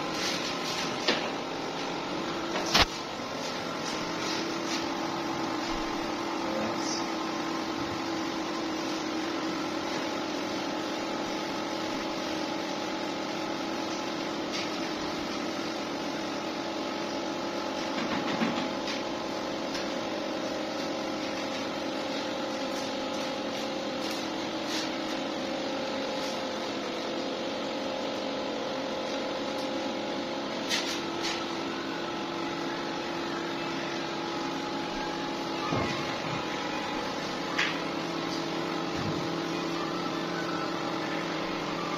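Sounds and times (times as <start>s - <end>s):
steady mechanical hum: 0.0s - 41.9s.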